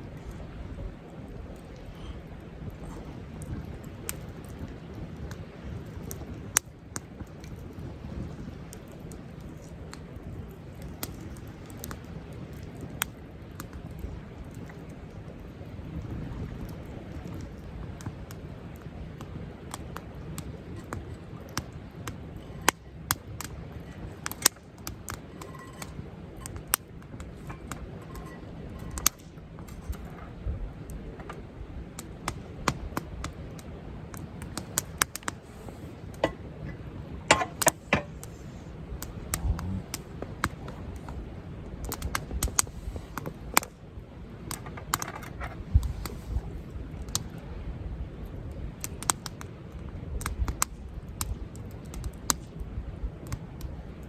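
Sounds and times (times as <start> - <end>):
campfire wood crackling: 0.0 - 54.0.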